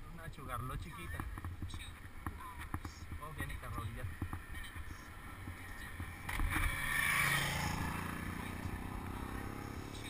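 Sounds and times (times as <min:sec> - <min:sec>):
bicycle road rumble: 0:00.0 - 0:10.0.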